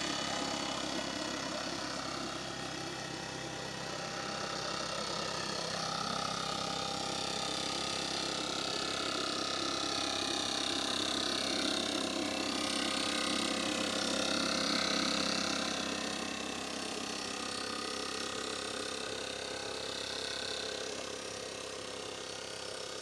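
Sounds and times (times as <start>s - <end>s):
blower engine running: 0.0s - 23.0s.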